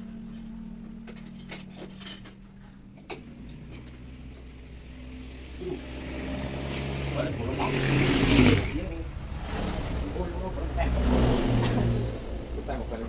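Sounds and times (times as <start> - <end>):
low engine hum: 0.0 - 13.0
motor vehicle passing: 2.4 - 13.0.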